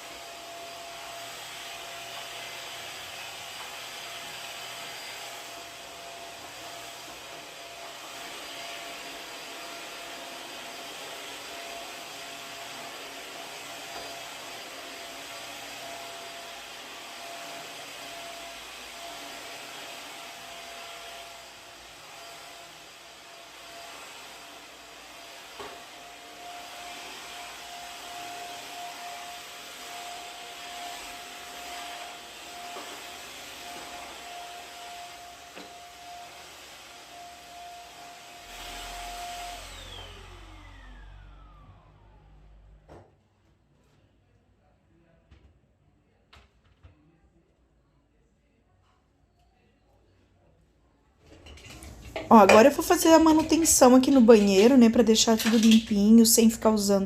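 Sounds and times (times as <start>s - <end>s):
vacuum cleaner whining: 0.0s - 43.2s, 51.5s - 57.0s.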